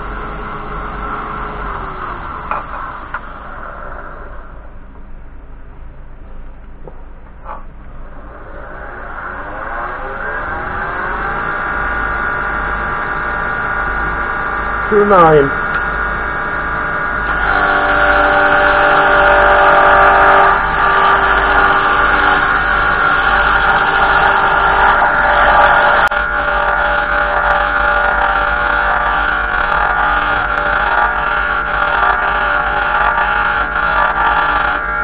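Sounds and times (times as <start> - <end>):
cutter cutting spinning wood: 0.0 - 4.7, 8.0 - 35.0
wood lathe motor whine: 0.0 - 4.7, 7.4 - 35.0.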